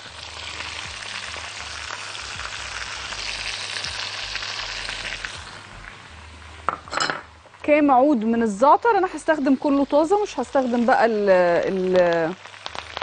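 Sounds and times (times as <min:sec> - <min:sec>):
butter sizzling in a metal pan: 0:00.0 - 0:07.2, 0:07.8 - 0:13.0.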